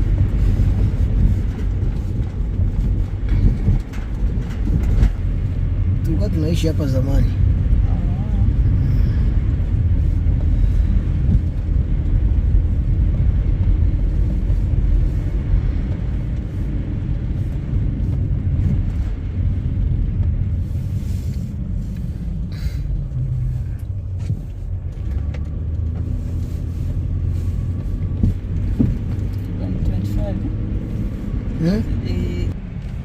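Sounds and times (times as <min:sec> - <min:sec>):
car interior rumble: 0:00.0 - 0:33.0.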